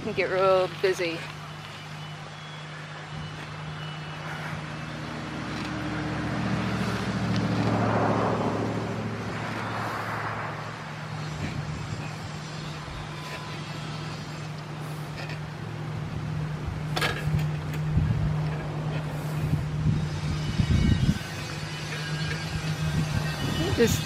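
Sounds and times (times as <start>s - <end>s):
car passing: 2.8s - 24.0s.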